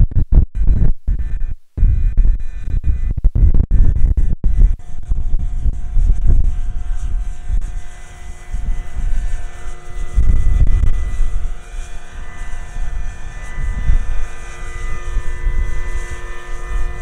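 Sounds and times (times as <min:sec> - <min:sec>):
gusty low rumble: 0:00.0 - 0:17.0
model helicopter motor whine: 0:00.6 - 0:17.0.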